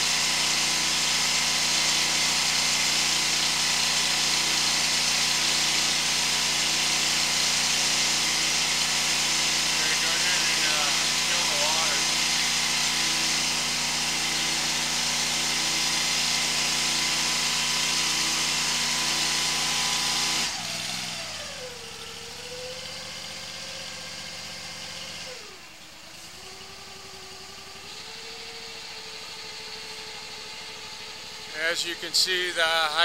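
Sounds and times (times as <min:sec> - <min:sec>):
high-pressure pump running with hiss: 0:00.0 - 0:33.0.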